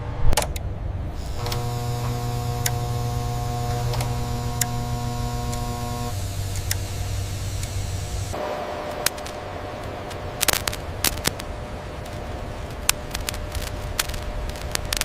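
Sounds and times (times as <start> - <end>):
factory machinery humming: 0.0 - 15.0
sharp clicks: 0.3 - 8.3, 9.0 - 15.0.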